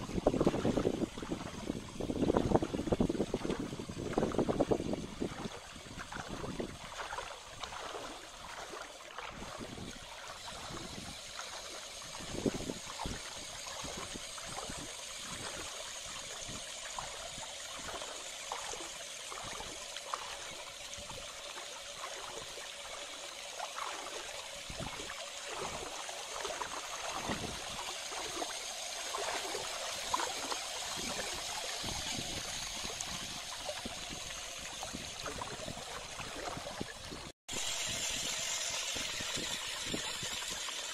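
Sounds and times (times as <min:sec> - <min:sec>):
running water rushing: 0:00.0 - 0:40.9
small water splashes: 0:00.0 - 0:40.9.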